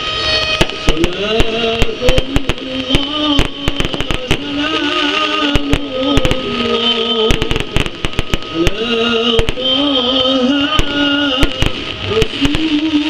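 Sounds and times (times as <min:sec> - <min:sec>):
fireworks bangs and crackles: 0:00.2 - 0:13.0.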